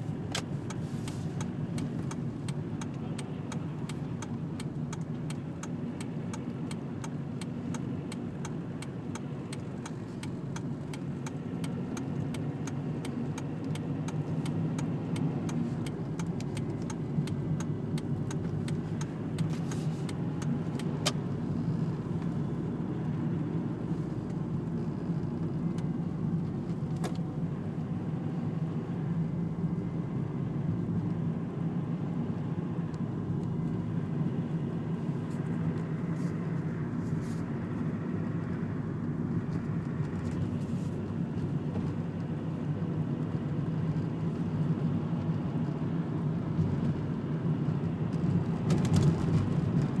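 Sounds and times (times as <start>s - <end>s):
car cabin road noise: 0.0s - 50.0s.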